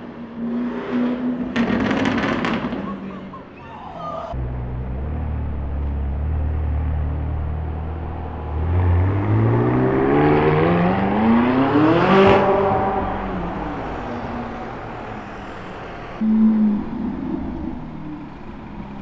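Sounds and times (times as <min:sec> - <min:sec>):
sports car engine accelerating: 0:00.0 - 0:02.9, 0:04.3 - 0:19.0.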